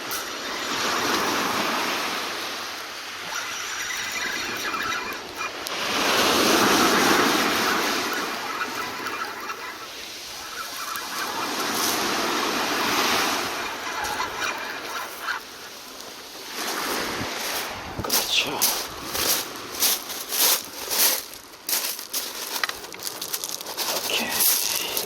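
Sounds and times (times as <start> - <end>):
sea waves washing on shore: 0.0 - 25.0.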